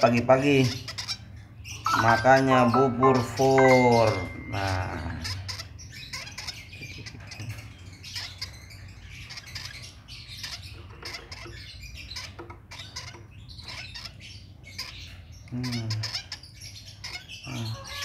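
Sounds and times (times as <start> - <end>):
bird chick squeaking: 0.0 - 18.0.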